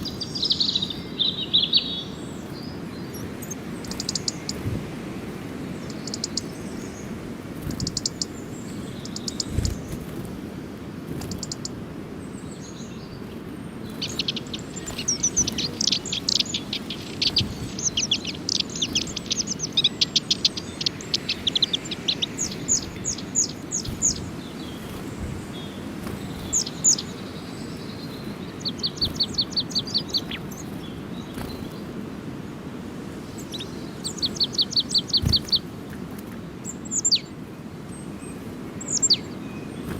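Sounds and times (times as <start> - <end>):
low background rumble: 0.0 - 32.1
birds chirping: 0.0 - 39.9.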